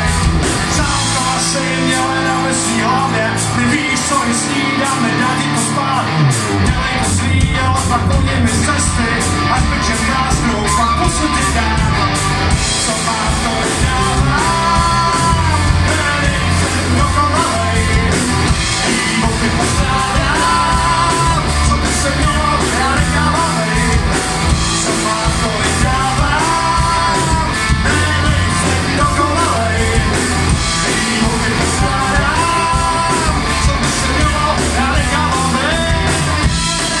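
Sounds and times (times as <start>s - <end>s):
drum kit: 0.0s - 37.0s
electric bass: 0.0s - 37.0s
electric guitar: 0.0s - 37.0s.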